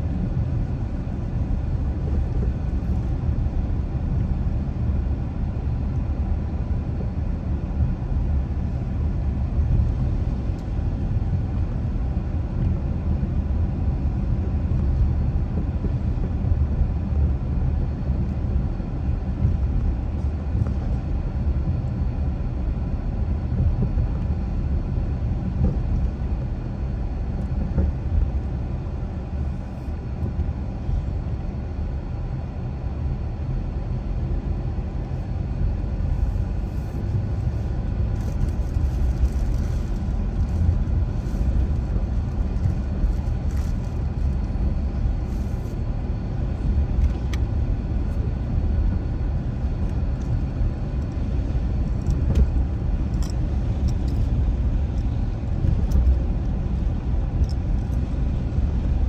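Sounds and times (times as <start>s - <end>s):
car driving road and engine noise: 0.0s - 59.0s.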